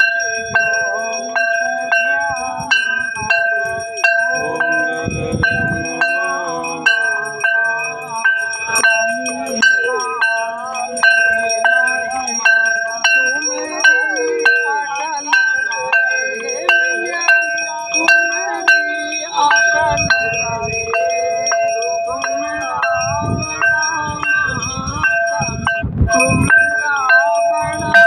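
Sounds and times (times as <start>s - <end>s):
hand bell ringing: 0.0s - 28.0s
voices singing a hymn: 0.0s - 28.0s.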